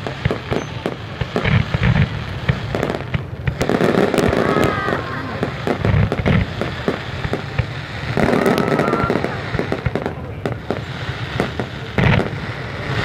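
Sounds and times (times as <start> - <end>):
continuous rumble: 0.0 - 13.0
fireworks cracks and booms: 0.0 - 13.0.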